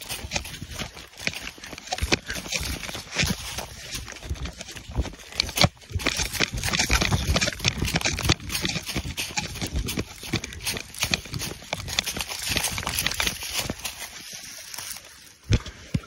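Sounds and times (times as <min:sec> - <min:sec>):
leaf litter rustling: 0:00.0 - 0:15.5
footsteps crunching dry leaves: 0:00.0 - 0:16.0.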